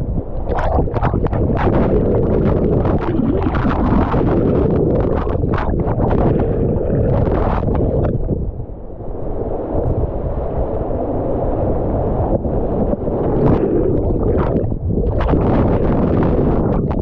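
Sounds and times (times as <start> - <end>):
muffled underwater rush of water: 0.0 - 17.0.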